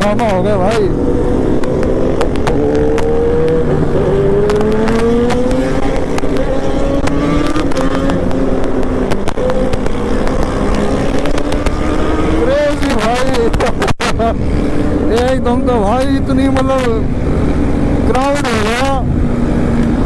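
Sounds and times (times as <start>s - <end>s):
motorbike engine at speed: 0.0s - 20.0s.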